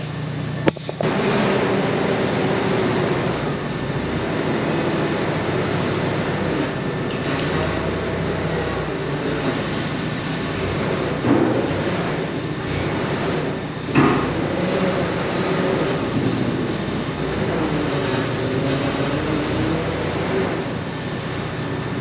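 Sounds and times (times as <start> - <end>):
forklift engine running: 0.0 - 22.0
forklift bump: 0.6 - 21.7.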